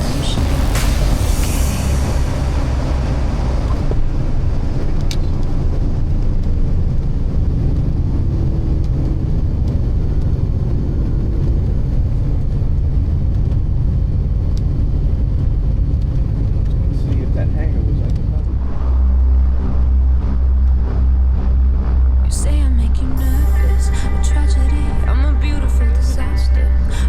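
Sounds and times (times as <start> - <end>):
aircraft piston engines droning: 0.0 - 13.0, 14.2 - 27.0.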